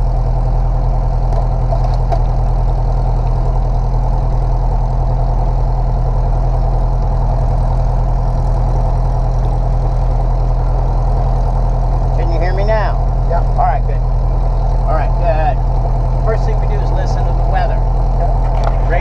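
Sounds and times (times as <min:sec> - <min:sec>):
aircraft engine idling: 0:00.0 - 0:19.0.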